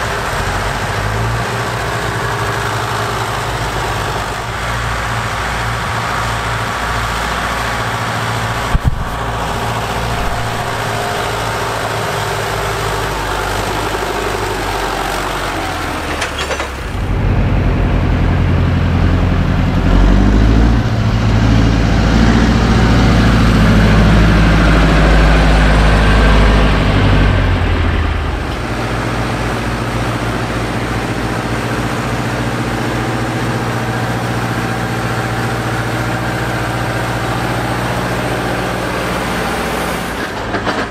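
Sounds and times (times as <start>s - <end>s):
tractor diesel engine working: 0.0s - 40.9s.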